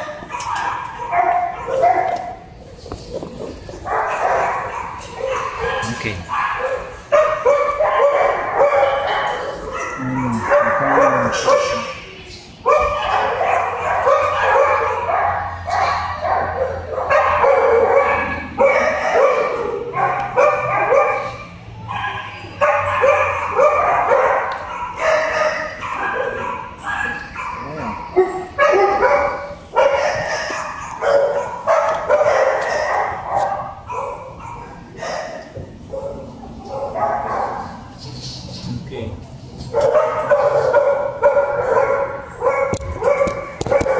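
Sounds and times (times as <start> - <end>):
dogs barking and yipping: 0.0 - 38.7, 39.4 - 43.9.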